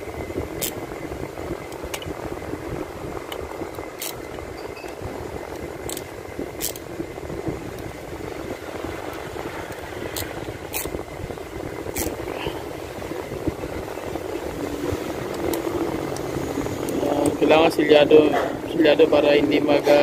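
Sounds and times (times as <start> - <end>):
steady background drone: 0.0 - 20.0.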